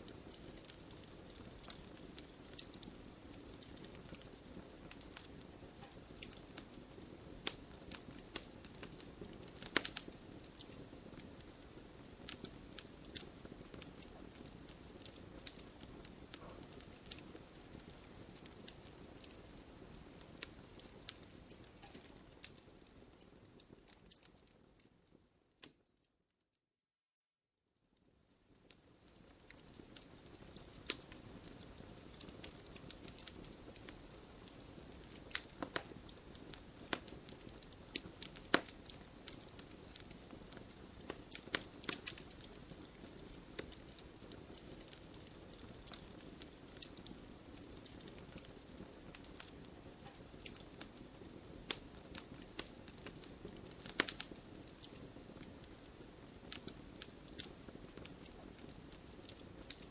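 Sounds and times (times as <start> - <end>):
fire crackling and popping: 0.0 - 26.0, 28.0 - 59.9.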